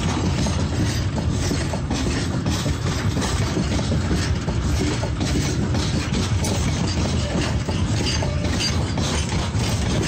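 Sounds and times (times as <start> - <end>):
freight train wheels rumbling: 0.0 - 10.0
wheels clacking: 0.0 - 10.0.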